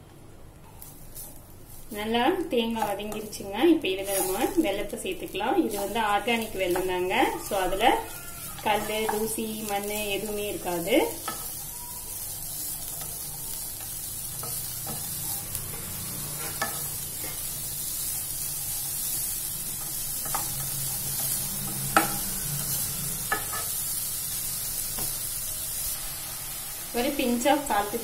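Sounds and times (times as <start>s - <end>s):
faint sizzle: 0.0s - 28.0s
wooden spatula stirring in a pan: 0.8s - 26.6s.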